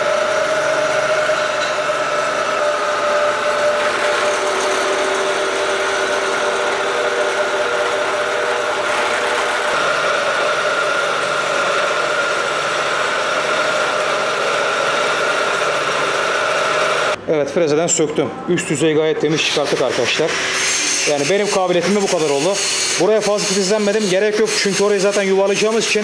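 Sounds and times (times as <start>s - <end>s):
milling machine cutting steel: 0.0s - 17.2s, 19.3s - 26.0s.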